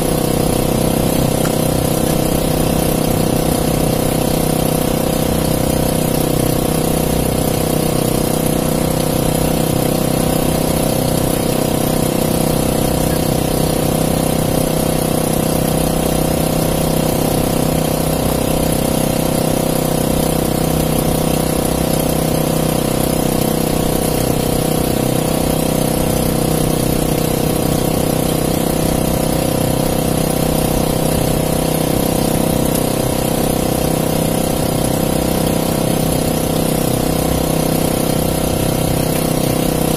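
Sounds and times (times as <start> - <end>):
small boat engine idling: 0.0 - 39.9.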